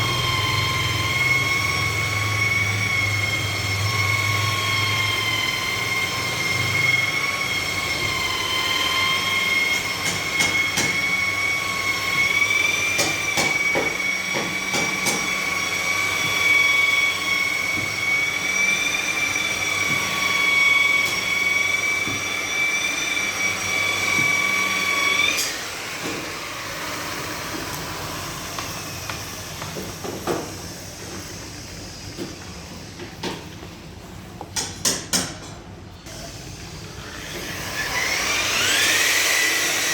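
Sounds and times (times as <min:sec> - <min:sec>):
power tool high-pitched whine: 0:00.0 - 0:32.5, 0:36.1 - 0:39.9.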